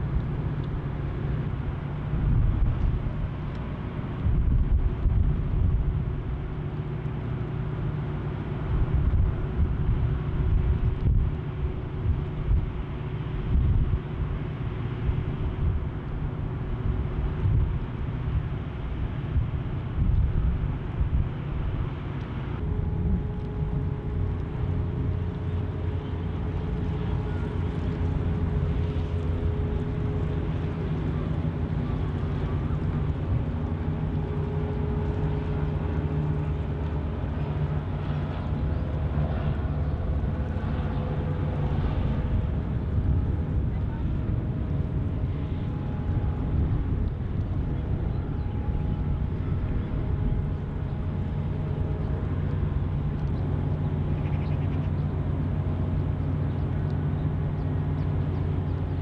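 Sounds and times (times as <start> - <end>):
faint hum of ship machinery: 0.0 - 59.0
wind buffeting microphone: 0.0 - 59.0.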